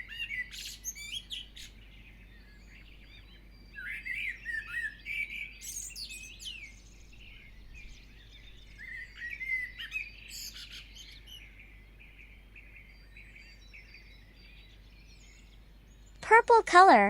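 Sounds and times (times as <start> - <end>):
birds chirping and singing: 0.0 - 16.2.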